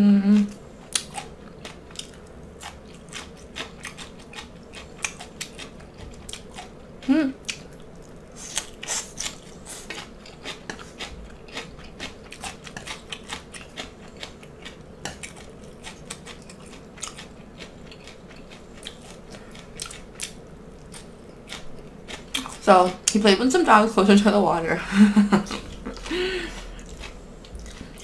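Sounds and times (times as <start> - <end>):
crisp chewing crunches: 0.9 - 6.8, 7.4 - 23.2, 25.4 - 28.0.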